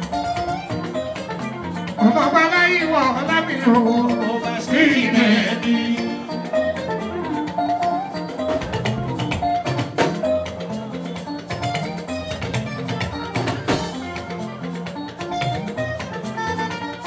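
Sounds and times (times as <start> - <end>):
drums and percussion: 0.0 - 17.0
guitar picking melody: 0.0 - 17.0.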